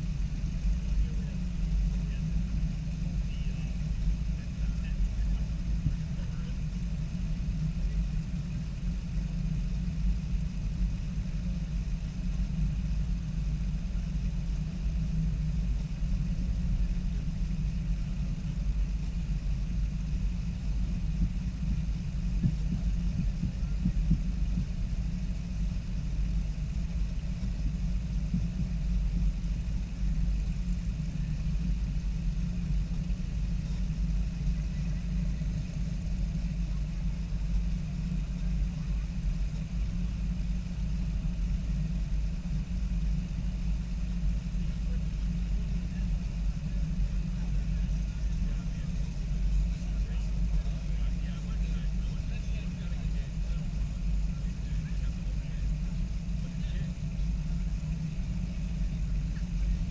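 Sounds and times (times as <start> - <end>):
car engines idling: 0.0 - 59.9.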